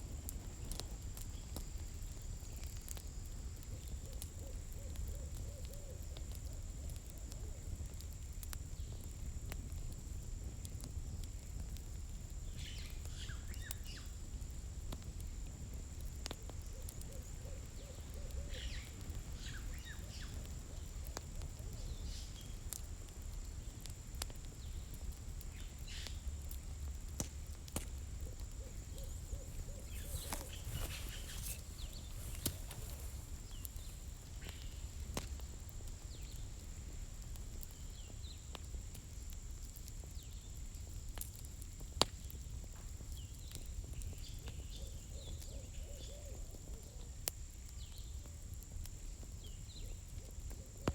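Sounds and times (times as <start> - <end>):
campfire crackling: 0.0 - 50.9.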